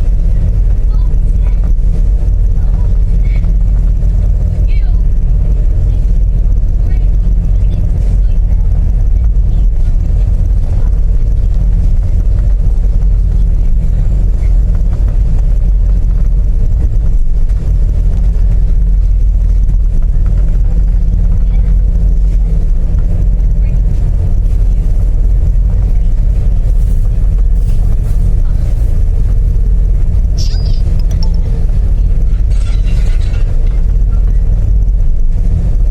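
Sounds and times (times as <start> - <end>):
ship engines droning: 0.0 - 35.9.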